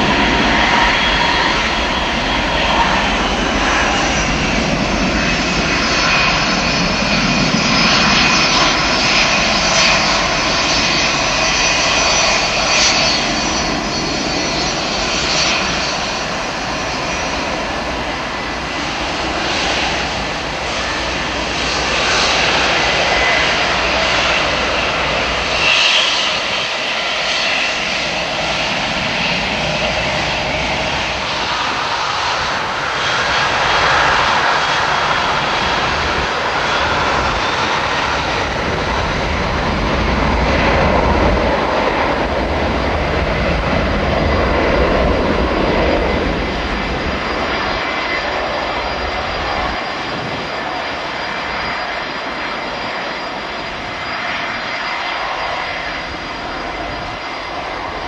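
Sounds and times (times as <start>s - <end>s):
jet engines running at low thrust: 0.0s - 58.0s.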